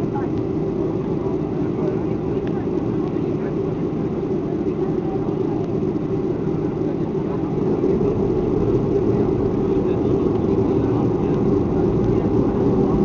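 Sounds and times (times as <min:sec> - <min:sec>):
jet engines roaring in cabin: 0:00.0 - 0:13.0.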